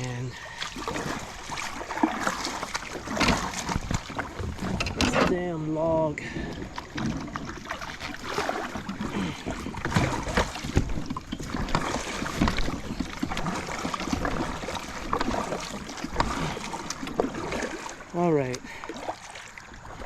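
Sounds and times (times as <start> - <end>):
water sloshing around hull: 0.0 - 20.0
kayak knocking against a log: 0.8 - 5.4, 6.2 - 19.4.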